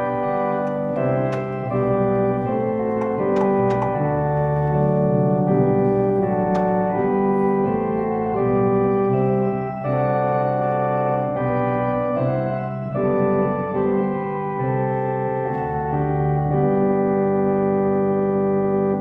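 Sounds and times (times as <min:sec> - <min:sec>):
slow organ chords: 0:00.0 - 0:19.0.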